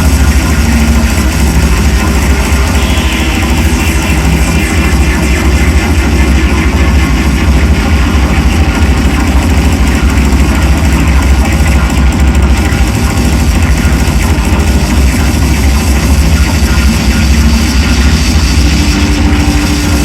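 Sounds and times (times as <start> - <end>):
distorted electronic drone noise: 0.0 - 20.0
heavy low rumble: 0.0 - 20.0.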